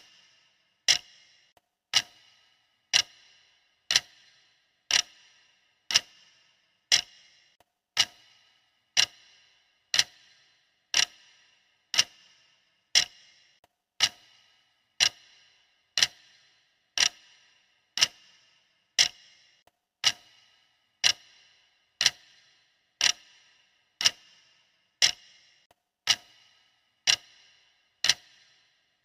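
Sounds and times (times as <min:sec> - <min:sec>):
timer ticking: 0:00.0 - 0:29.0.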